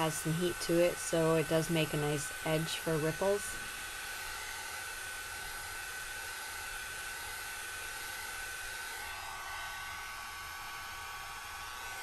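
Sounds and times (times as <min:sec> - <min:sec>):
hair dryer blowing with whine: 0:00.0 - 0:12.0.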